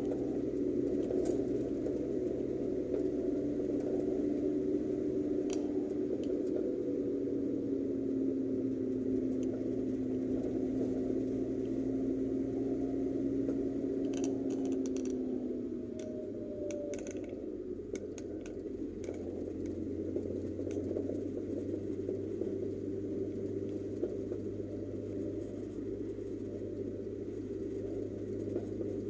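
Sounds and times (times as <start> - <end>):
car engine hum: 0.0 - 29.0.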